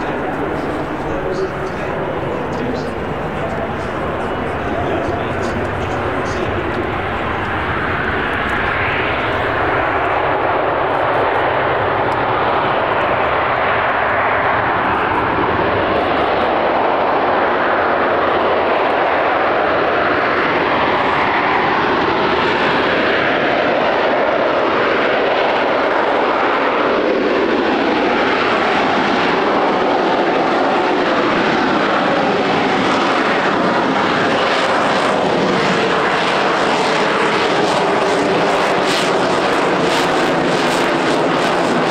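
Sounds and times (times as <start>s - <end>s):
jet engine running loudly: 0.0s - 41.9s.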